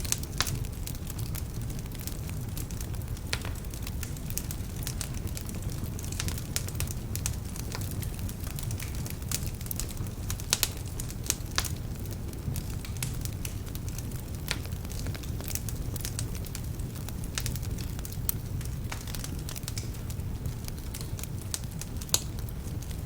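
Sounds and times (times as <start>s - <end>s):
logs crackling and popping: 0.0s - 23.0s
low rumble of flames: 0.0s - 23.0s.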